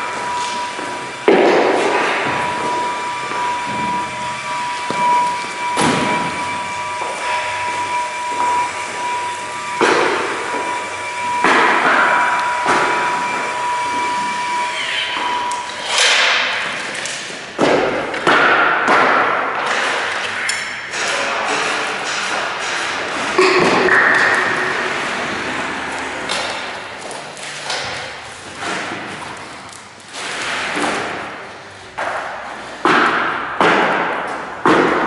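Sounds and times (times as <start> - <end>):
high-pitched whine: 0.0 - 32.0.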